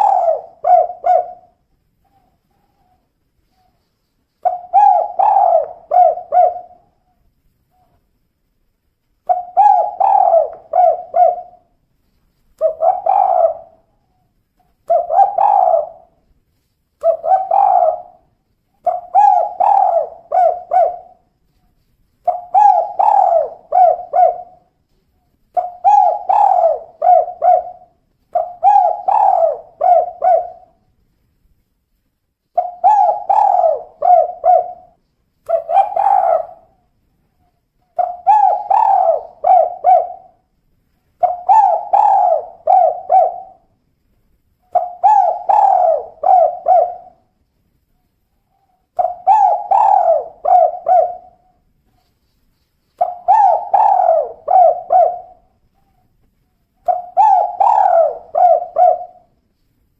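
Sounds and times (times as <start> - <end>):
dove cooing: 0.0 - 8.0, 9.2 - 11.8, 12.6 - 16.3, 17.0 - 21.6, 22.2 - 30.9, 32.5 - 36.9, 37.9 - 40.5, 41.2 - 43.8, 44.7 - 47.3, 48.4 - 52.1, 53.0 - 59.4.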